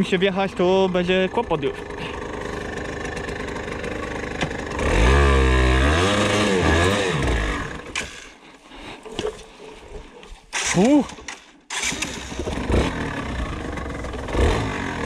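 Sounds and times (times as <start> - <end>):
two-stroke engine idling and revving: 0.0 - 8.4, 10.5 - 15.0.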